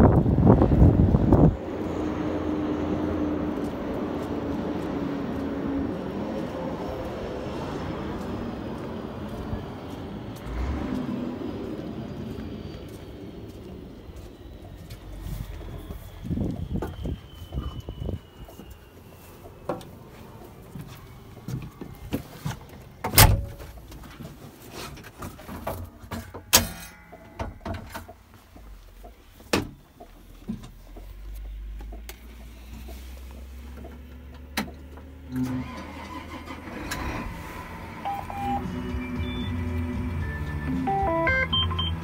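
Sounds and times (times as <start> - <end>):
tractor engine droning: 0.0 - 42.0.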